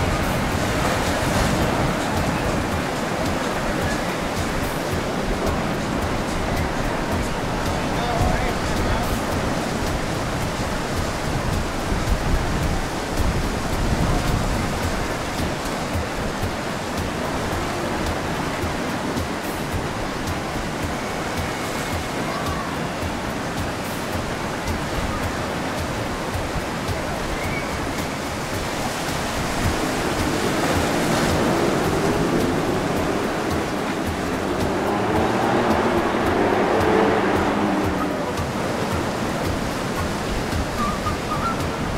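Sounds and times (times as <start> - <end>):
water rushing past boat: 0.0 - 41.9
wind buffeting microphone: 0.0 - 41.9.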